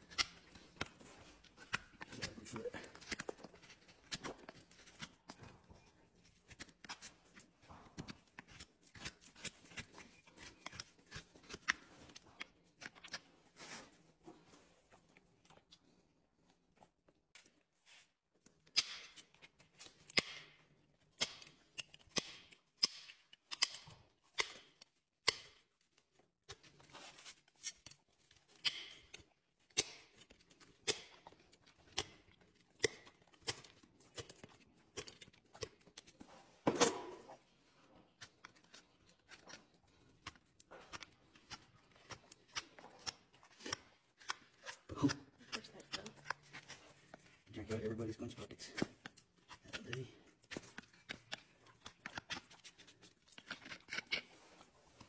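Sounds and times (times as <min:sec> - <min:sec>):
hand tools snipping and scraping hoof: 0:00.0 - 0:13.3, 0:18.4 - 0:25.7, 0:26.5 - 0:47.4, 0:48.6 - 0:55.0.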